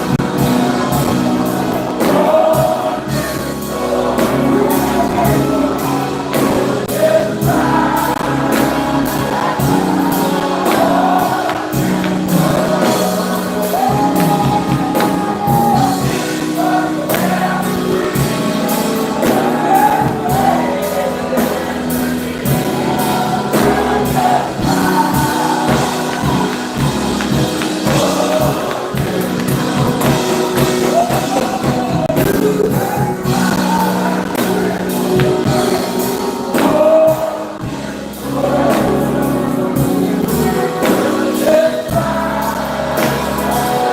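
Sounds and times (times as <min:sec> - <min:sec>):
tambourine beat: 0:00.0 - 0:39.2
choir and congregation singing: 0:00.0 - 0:43.9.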